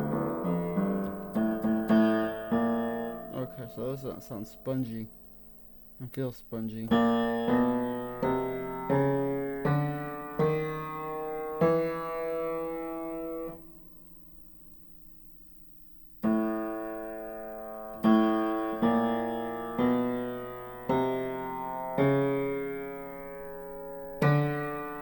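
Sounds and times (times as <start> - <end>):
piano single notes: 0.0 - 14.2, 16.2 - 25.0.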